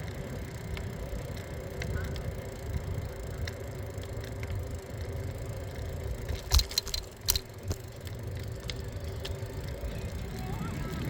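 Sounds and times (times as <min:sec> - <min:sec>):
bike rattling over a bump: 0:00.0 - 0:11.0
wind and tyres rumbling: 0:00.0 - 0:11.0.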